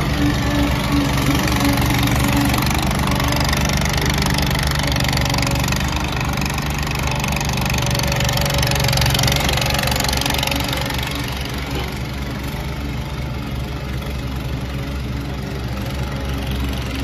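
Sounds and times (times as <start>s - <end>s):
small loader engine running: 0.0s - 17.0s.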